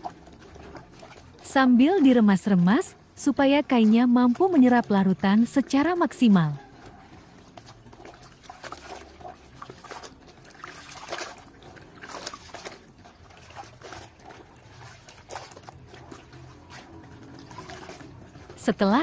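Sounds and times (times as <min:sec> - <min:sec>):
liquid trickling and sloshing: 0:00.0 - 0:19.0
wet cloth squelching: 0:00.0 - 0:19.0.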